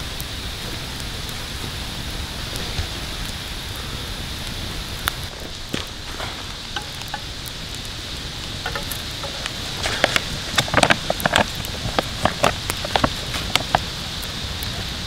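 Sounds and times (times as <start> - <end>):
campfire crackling and popping: 0.0 - 15.0
fire hiss: 0.0 - 15.0.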